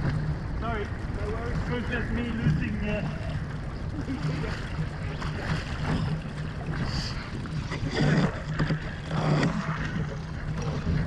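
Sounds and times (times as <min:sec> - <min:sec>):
low steady hum: 0:00.0 - 0:11.0
water rushing past hulls: 0:00.0 - 0:11.0.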